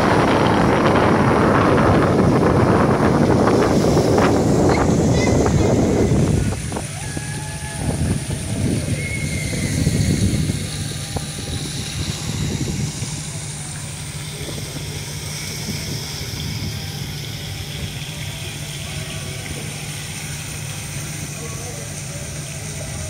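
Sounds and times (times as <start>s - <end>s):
faint voices: 0.0s - 23.0s
ship engines humming: 0.0s - 23.0s.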